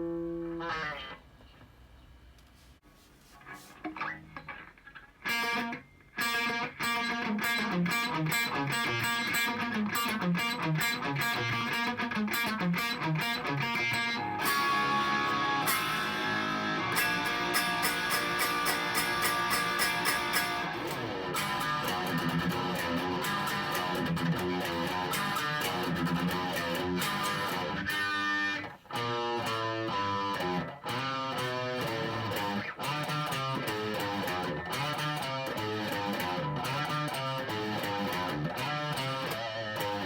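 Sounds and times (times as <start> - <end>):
electric guitar riff and chords: 3.9 - 40.0.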